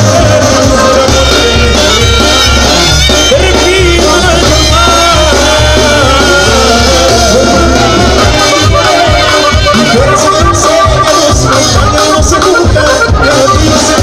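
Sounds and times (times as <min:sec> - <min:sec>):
brass band melody: 0:00.0 - 0:14.0
sustained bass line: 0:00.0 - 0:14.0.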